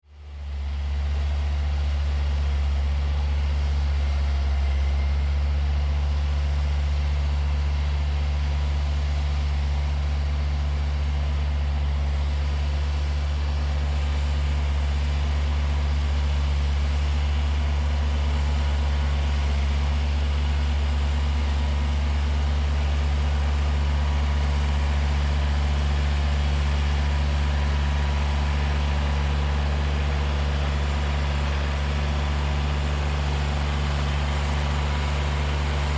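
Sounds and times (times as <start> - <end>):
diesel engine droning: 0.2 - 35.9.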